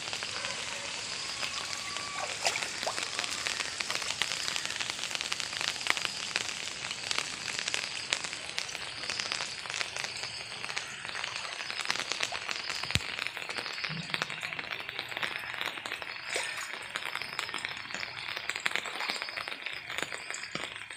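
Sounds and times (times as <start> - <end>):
rain pattering on water: 0.0 - 20.9.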